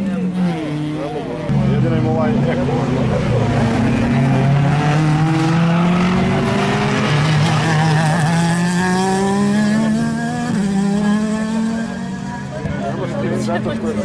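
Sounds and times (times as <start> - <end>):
racing cars accelerating past: 0.1 - 14.0.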